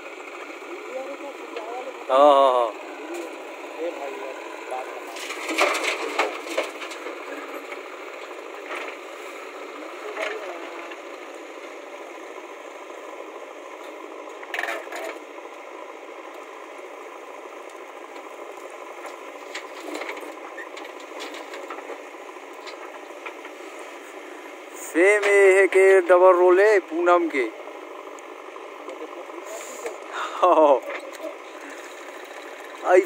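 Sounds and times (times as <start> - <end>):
backhoe loader rattling: 2.8 - 33.0.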